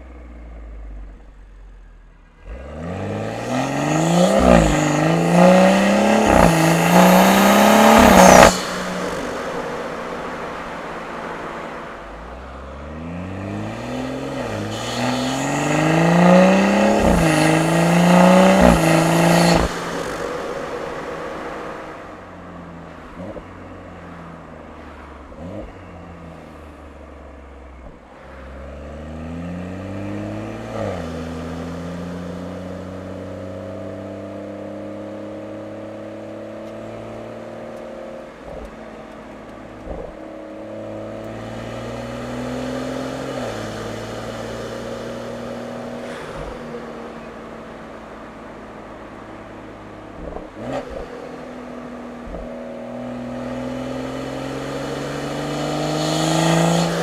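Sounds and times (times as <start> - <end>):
car engine under light throttle: 0.0 - 57.0.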